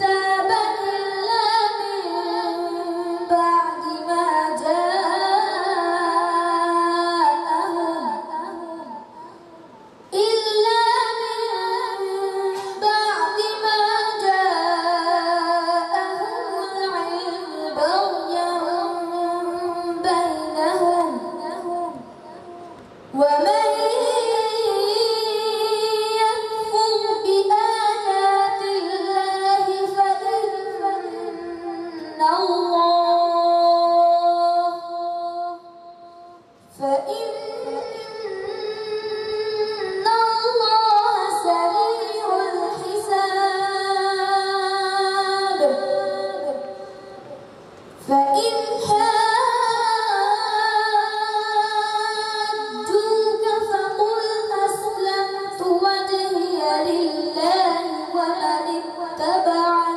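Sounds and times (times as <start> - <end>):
boy chanting melodically: 0.0 - 59.9.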